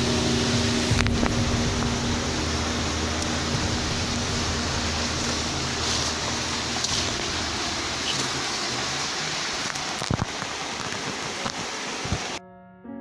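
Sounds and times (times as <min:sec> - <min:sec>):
stream water rushing: 0:00.0 - 0:12.4.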